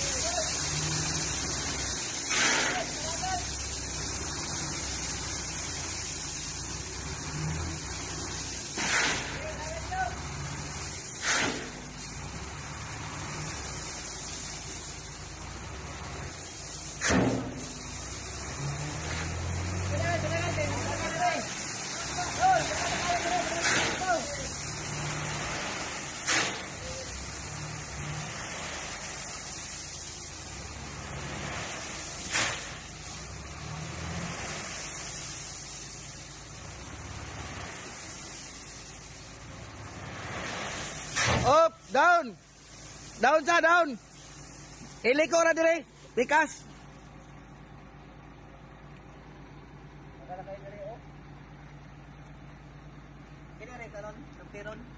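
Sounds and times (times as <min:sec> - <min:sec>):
gravel sliding: 0:00.0 - 0:47.7
diesel engine running: 0:00.0 - 0:54.9.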